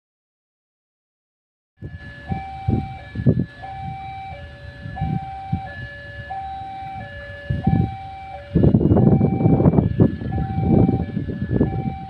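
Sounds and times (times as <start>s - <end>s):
level crossing two-tone alarm: 1.8s - 12.0s
loud rumbling noise: 1.8s - 12.0s.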